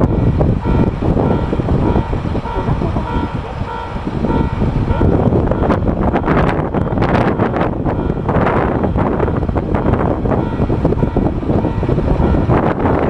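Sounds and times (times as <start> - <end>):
diesel train rumble: 0.0 - 13.0
wind buffeting microphone: 0.0 - 13.0
repeating beeping tone: 0.1 - 12.5.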